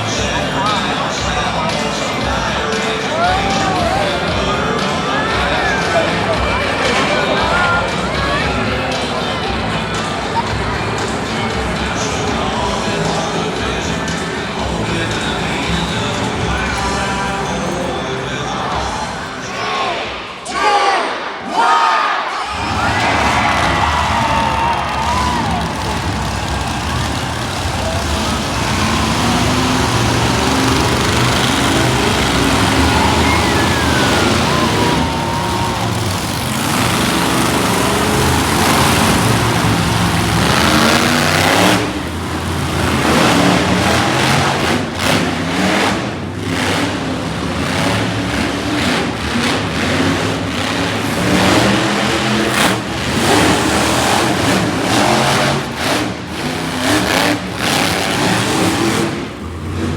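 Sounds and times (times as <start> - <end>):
monster truck engines revving: 0.0 - 21.0, 21.6 - 59.9.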